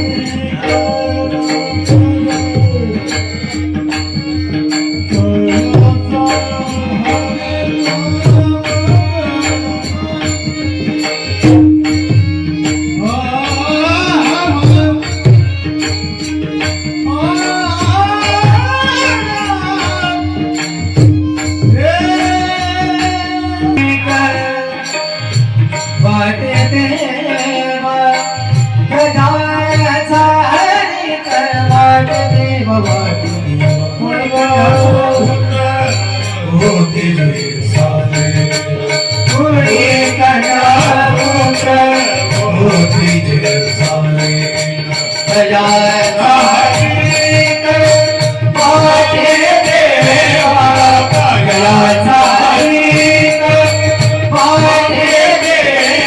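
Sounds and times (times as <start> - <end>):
devotional singing: 0.0 - 56.0
tabla playing: 0.0 - 56.0.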